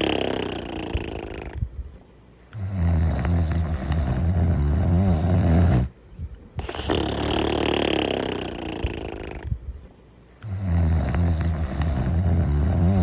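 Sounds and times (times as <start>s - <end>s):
cartoon character snoring: 0.0s - 1.6s, 2.5s - 6.0s, 6.6s - 9.5s, 10.4s - 13.0s.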